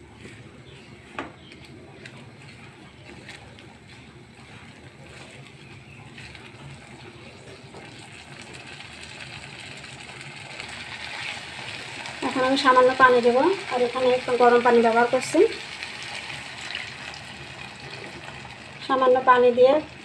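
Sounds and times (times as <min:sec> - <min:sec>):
masala sizzling in a pan: 0:02.4 - 0:20.0.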